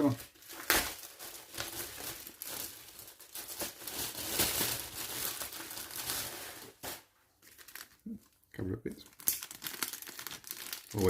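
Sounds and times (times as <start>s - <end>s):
plastic packaging crinkling and tearing: 0.0s - 8.4s, 9.0s - 11.0s.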